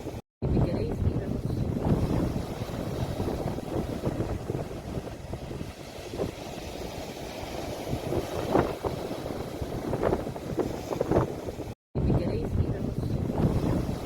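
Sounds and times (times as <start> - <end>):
sea surf: 0.0 - 0.2, 0.9 - 11.8, 12.4 - 14.0
wind rumbling on microphone: 0.0 - 14.0.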